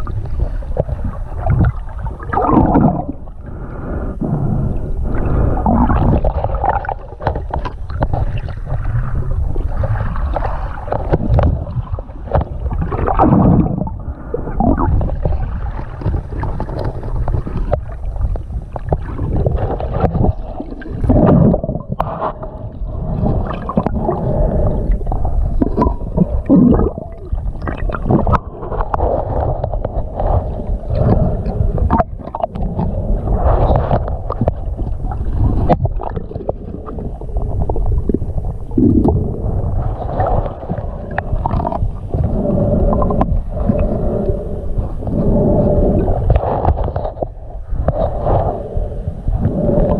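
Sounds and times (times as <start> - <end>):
underwater sloshing and gurgling: 0.0 - 49.9.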